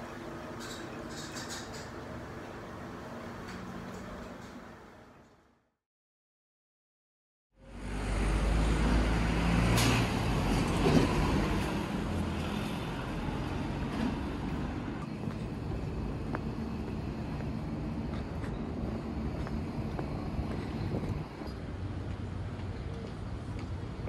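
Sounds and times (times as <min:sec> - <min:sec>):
city road traffic: 0:00.0 - 0:05.3, 0:07.6 - 0:24.0.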